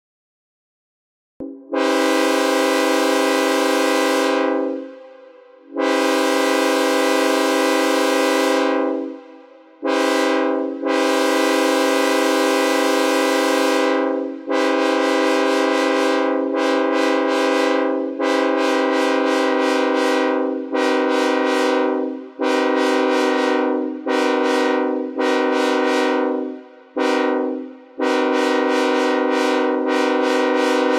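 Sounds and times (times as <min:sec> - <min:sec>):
locomotive air horn blasts: 0:01.4 - 0:30.9.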